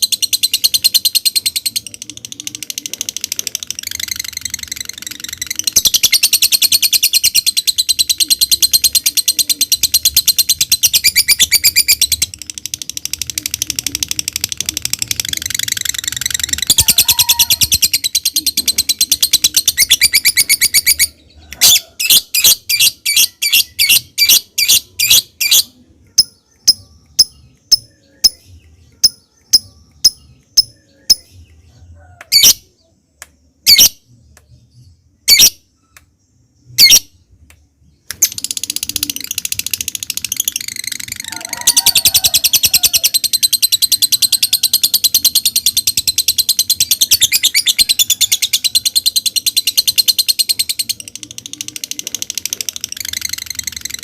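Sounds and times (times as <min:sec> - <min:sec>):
bird chattering trill: 0:00.0 - 0:31.4, 0:38.1 - 0:54.0
bird chirps: 0:00.0 - 0:54.0.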